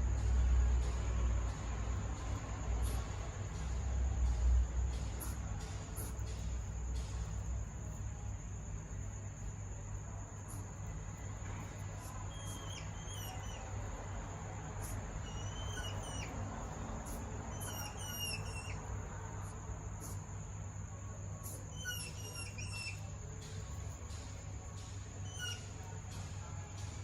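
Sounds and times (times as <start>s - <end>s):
steady low hum: 0.0s - 27.0s
hedgehogs high chirps: 1.5s - 8.3s, 9.0s - 26.8s.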